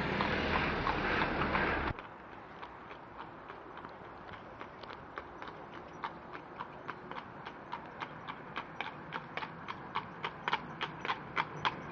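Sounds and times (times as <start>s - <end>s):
horse hooves clip-clopping: 0.0s - 11.9s.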